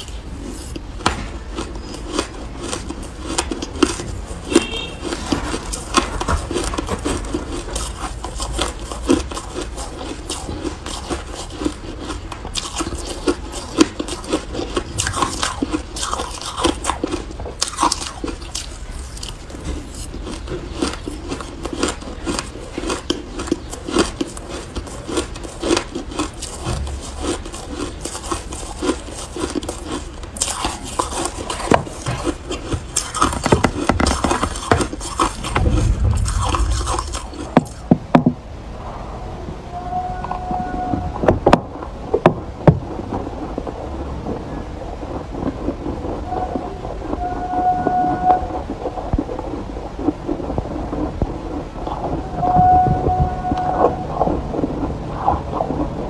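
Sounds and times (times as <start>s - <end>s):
ice being chewed: 0.0s - 37.9s, 42.9s - 56.0s.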